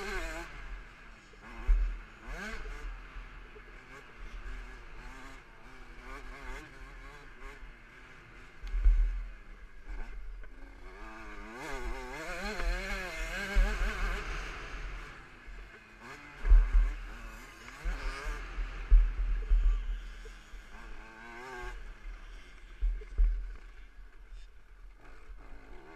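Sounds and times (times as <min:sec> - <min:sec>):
two-stroke engine revving: 0:00.0 - 0:25.9.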